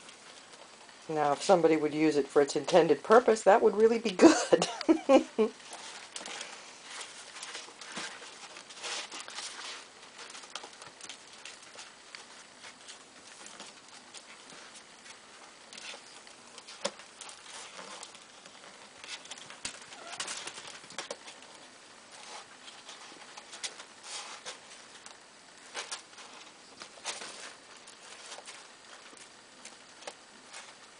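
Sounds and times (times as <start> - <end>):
kittens scratching in litter: 5.2 - 30.9.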